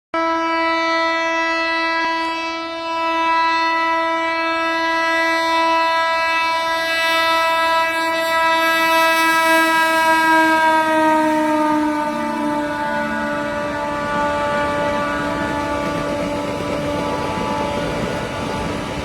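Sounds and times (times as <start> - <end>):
train horn blast: 0.1 - 19.0.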